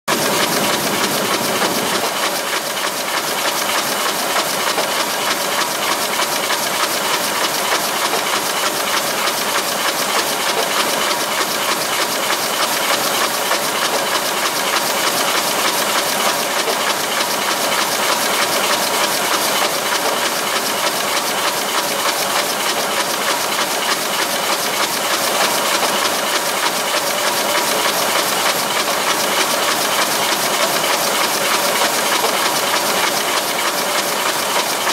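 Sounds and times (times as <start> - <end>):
fast mechanical clatter: 0.1 - 34.9.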